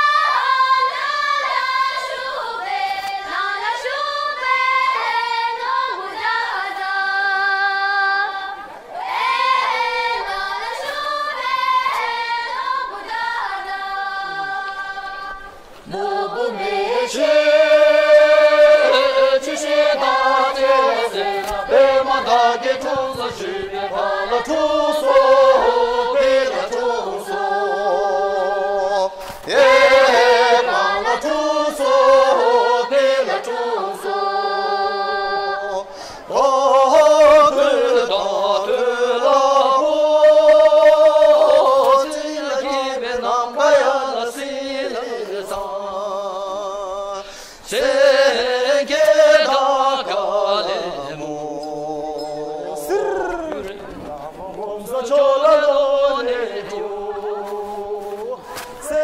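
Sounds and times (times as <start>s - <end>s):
opera singing with wavering ornaments: 0.0s - 59.0s.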